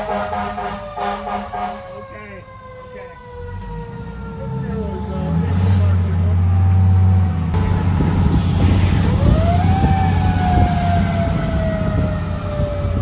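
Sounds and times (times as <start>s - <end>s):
fire truck siren: 0.0s - 13.0s
heavy truck engine rumble: 0.0s - 13.0s.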